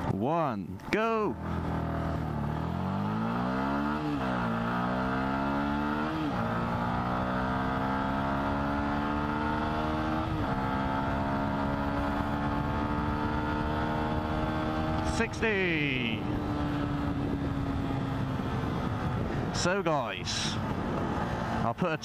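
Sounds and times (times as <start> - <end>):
motorcycle engine accelerating: 1.3 - 21.8.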